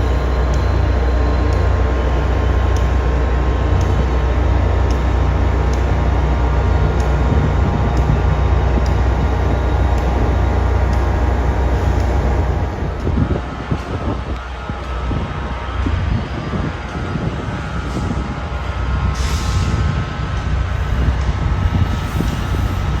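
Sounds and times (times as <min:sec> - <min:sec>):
train locomotive humming: 0:00.0 - 0:23.0.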